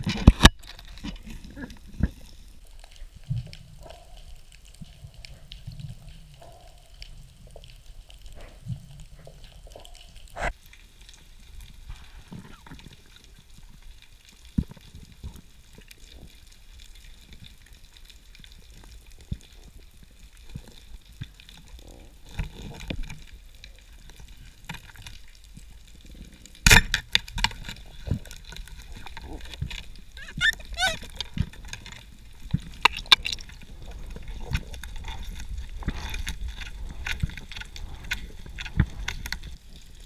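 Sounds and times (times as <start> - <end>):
faint crackling clicks: 0.0 - 40.0.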